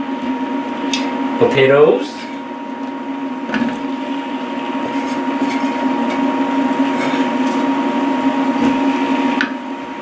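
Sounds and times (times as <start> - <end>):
induction cooktop humming: 0.0 - 10.0.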